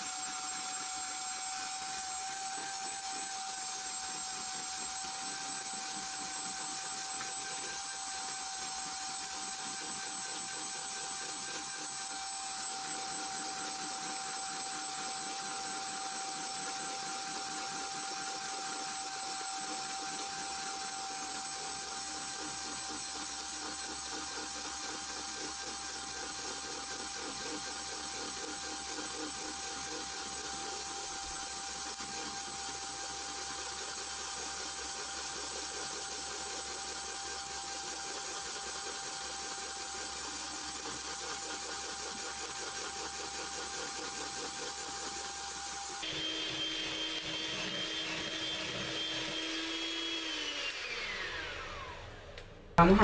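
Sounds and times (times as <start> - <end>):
electric hand mixer whining: 0.0 - 53.0.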